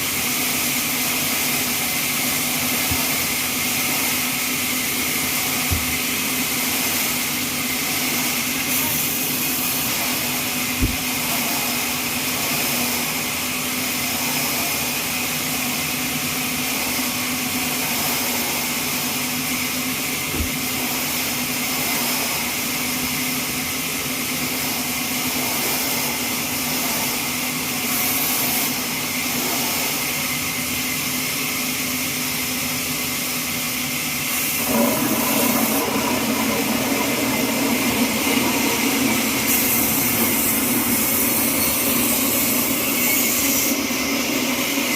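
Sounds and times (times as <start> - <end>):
bandsaw running: 0.0 - 44.9.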